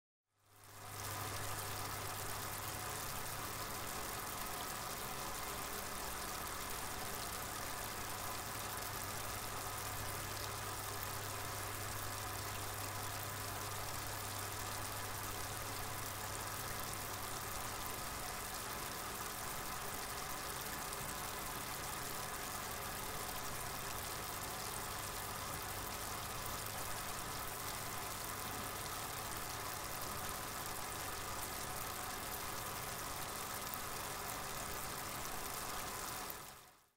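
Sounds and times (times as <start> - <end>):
constant hiss: 0.4 - 36.9
low electrical hum: 0.4 - 36.9.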